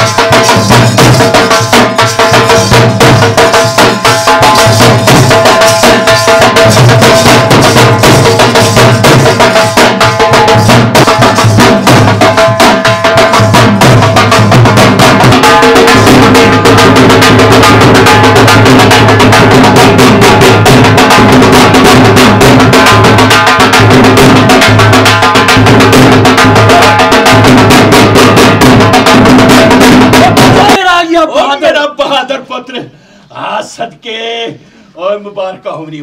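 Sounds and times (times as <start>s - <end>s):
dhol drumming: 0.0s - 32.6s.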